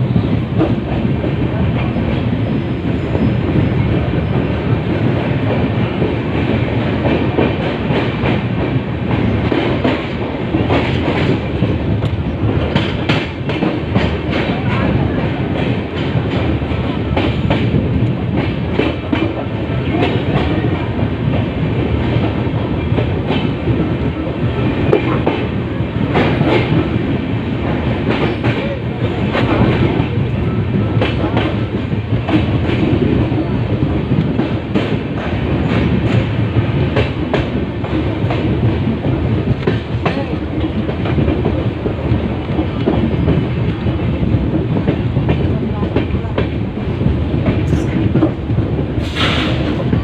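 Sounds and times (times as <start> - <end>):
train coach rumble: 0.0 - 50.0.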